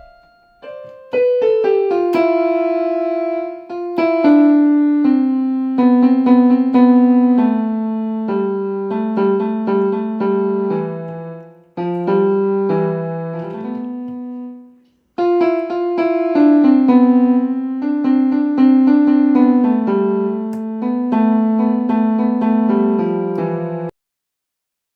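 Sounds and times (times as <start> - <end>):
piano-like keyboard melody: 0.0 - 24.0.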